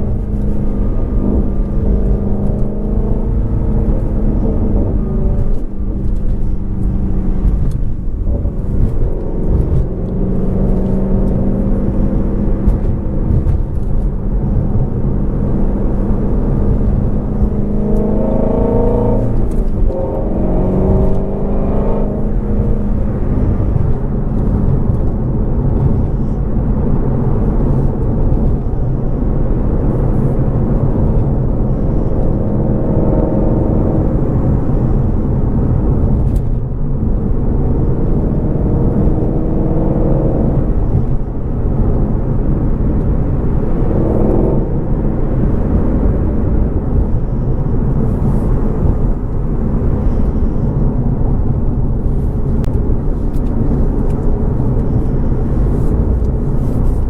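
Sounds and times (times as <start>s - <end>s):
car engine droning: 0.0s - 57.0s
tyre and road noise: 0.0s - 57.0s.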